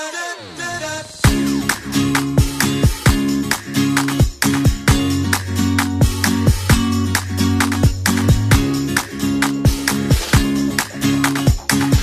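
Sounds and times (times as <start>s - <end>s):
steady drum beat: 1.2s - 12.0s.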